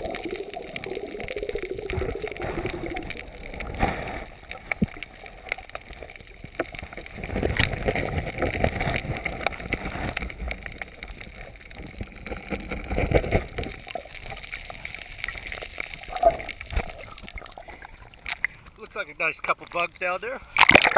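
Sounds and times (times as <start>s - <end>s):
water gurgling and sloshing: 0.0s - 18.8s
crackling clicks: 0.0s - 19.9s, 20.6s - 20.9s.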